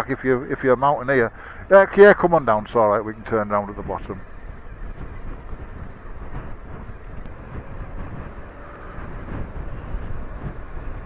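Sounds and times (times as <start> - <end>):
motorcycle engine rumble: 0.0 - 11.0
wind and road noise: 0.0 - 11.0.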